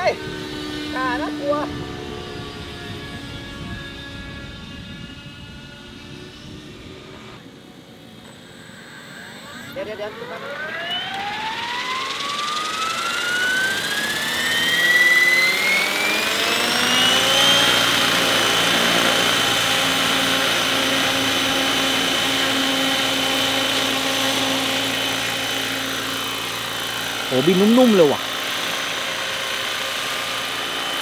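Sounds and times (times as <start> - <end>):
model helicopter whine: 0.0 - 31.0.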